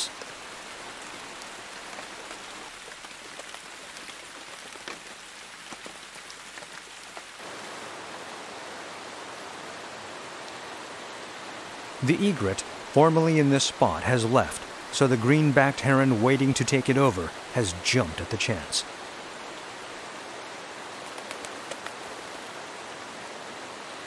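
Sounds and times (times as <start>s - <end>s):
rain falling on water: 0.0s - 24.0s.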